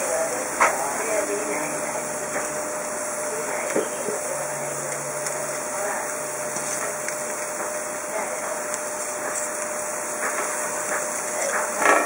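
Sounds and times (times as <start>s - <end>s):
steaks sizzling on grill: 0.0s - 12.0s.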